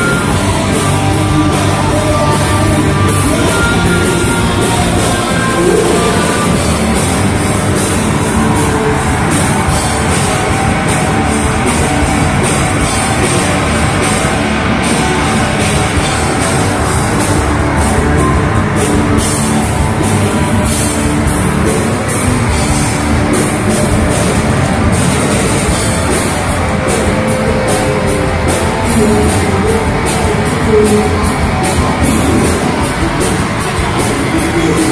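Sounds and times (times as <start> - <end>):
distorted electric guitar: 0.0 - 34.9
live rock band playing: 0.0 - 34.9.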